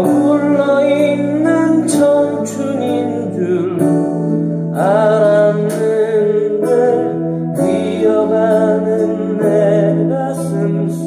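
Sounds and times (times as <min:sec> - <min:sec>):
male vocal ballad: 0:00.0 - 0:11.0.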